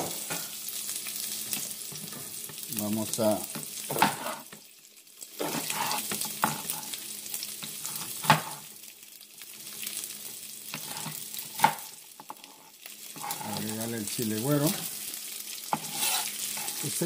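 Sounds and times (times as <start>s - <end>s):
onion sizzling in oil: 0.0s - 17.0s.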